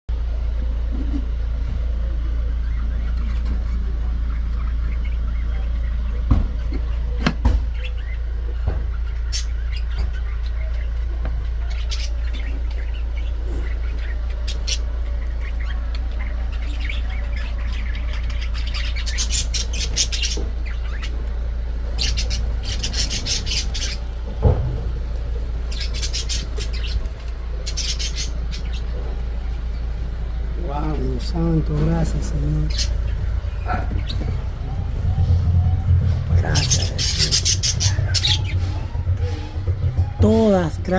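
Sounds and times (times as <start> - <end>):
low rumble: 0.1 - 40.9
lovebirds chattering and squawking: 0.2 - 40.9.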